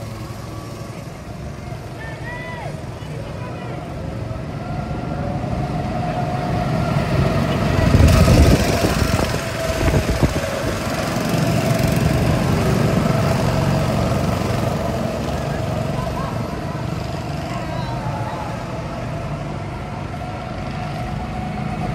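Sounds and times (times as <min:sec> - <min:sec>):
go-kart engines buzzing: 0:00.0 - 0:21.9.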